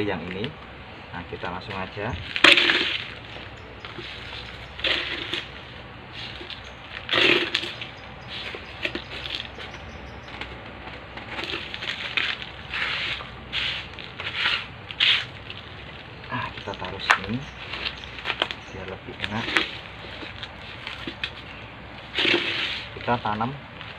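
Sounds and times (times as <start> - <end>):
hands crunching gritty potting mix: 0.0 - 23.9.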